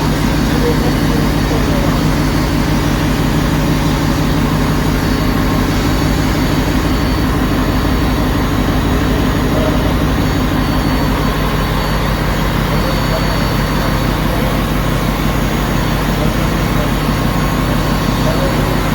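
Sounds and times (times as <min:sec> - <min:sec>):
engine room machinery drone: 0:00.0 - 0:18.9.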